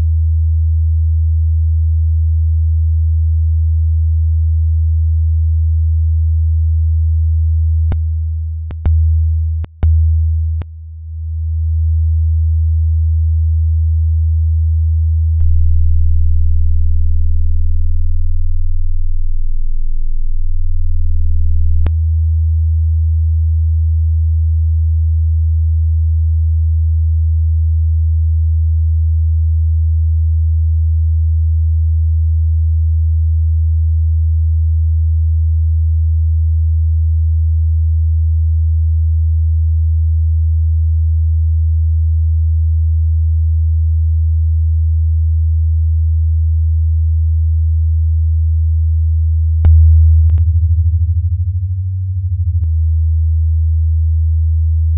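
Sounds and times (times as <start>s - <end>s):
deep electronic sine tone: 0.0s - 54.9s.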